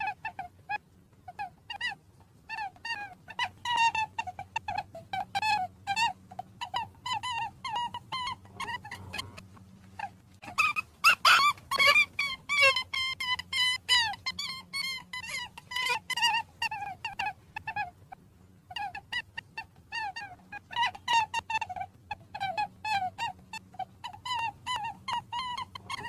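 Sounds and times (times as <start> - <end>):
rabbit squeaking: 0.0 - 26.0.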